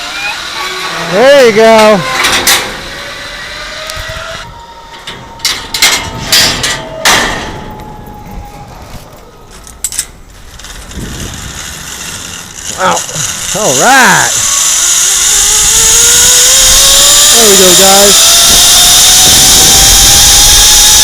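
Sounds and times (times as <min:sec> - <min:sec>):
zip line trolley whining on cable: 0:00.0 - 0:21.0.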